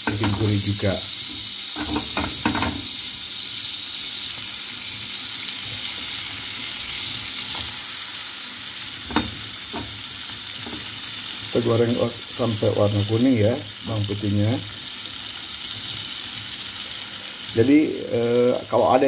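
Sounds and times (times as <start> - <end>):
fat sizzling in frying pan: 0.0 - 19.0.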